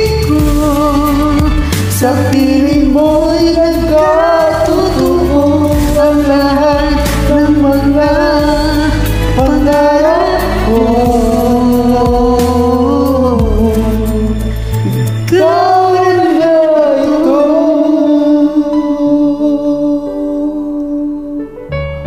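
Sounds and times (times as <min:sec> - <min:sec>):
karaoke duet singing: 0:00.0 - 0:21.6
ballad backing track: 0:00.0 - 0:22.0.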